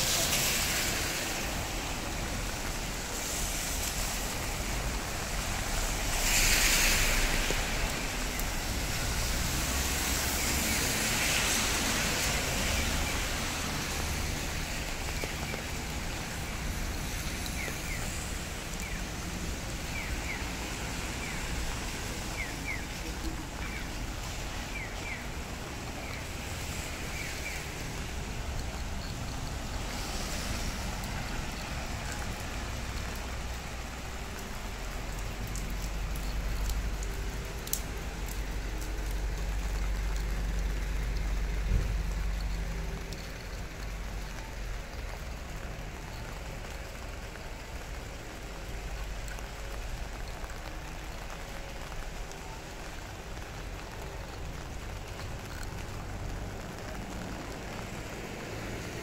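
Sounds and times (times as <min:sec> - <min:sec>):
rain hiss: 0:00.0 - 0:59.0
vehicle swishing past on wet road: 0:00.0 - 0:59.0
wet traffic: 0:00.0 - 0:59.0.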